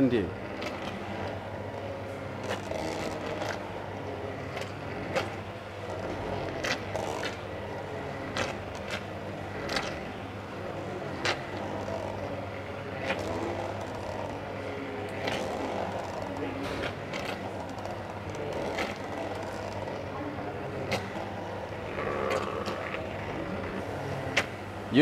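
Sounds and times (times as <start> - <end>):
immersion blender running: 0.0 - 25.0.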